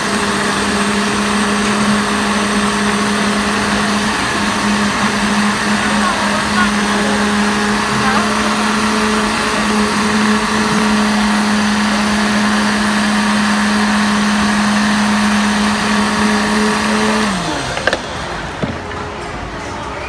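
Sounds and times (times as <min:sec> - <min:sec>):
blender motor running: 0:00.0 - 0:18.2
churning slushie: 0:00.0 - 0:18.4.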